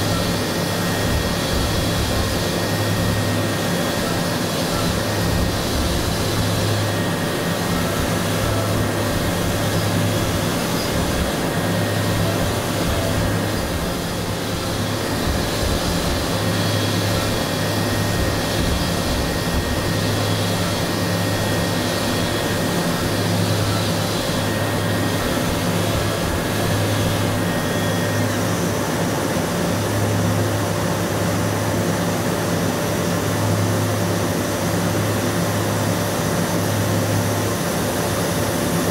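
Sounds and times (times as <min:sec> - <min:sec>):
low machine hum: 0:00.0 - 0:38.9
milling machine cutting whine: 0:00.0 - 0:38.9.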